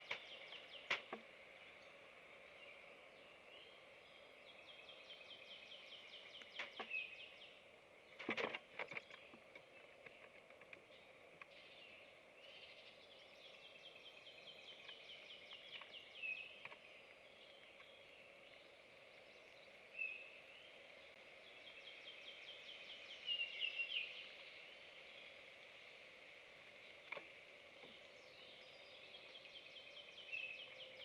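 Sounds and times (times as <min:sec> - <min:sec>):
low background hiss: 0:00.0 - 0:31.0.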